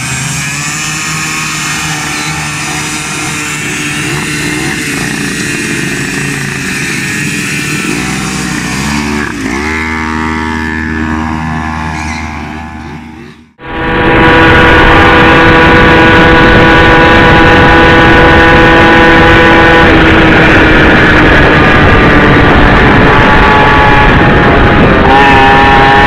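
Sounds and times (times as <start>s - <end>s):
moped engines running: 0.0s - 26.0s.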